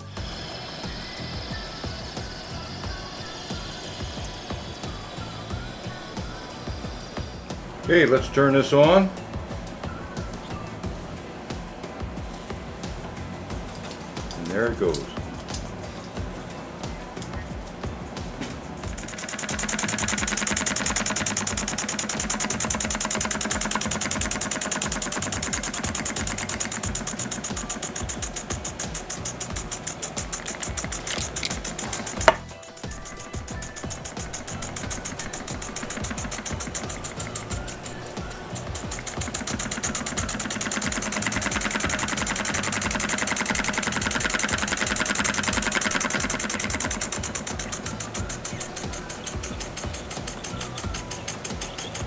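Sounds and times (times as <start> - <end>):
toy steam engine chuffing: 0.0 - 10.9, 18.6 - 52.0
steady low hum: 0.0 - 52.0.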